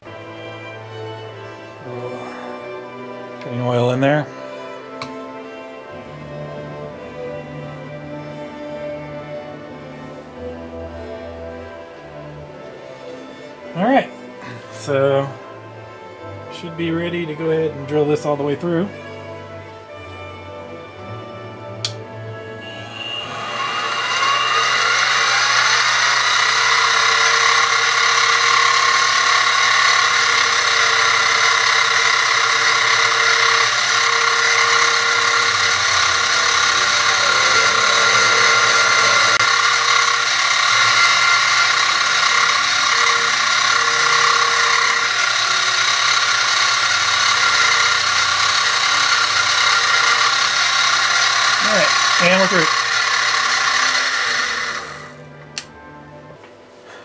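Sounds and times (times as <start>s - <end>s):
mill spindle whining: 0.0s - 17.5s, 19.0s - 56.1s.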